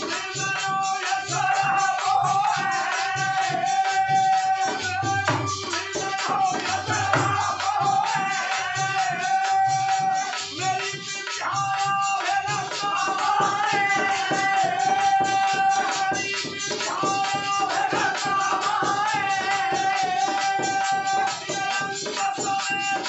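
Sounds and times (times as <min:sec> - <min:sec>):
dholak drum rhythm: 0:00.0 - 0:23.0
harmonium: 0:00.0 - 0:23.0
jingling percussion: 0:00.0 - 0:23.0
man singing: 0:00.0 - 0:23.0.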